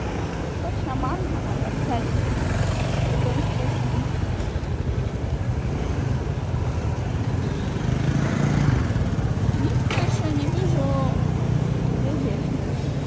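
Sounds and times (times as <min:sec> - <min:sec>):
motor scooter engines running: 0:00.0 - 0:13.0.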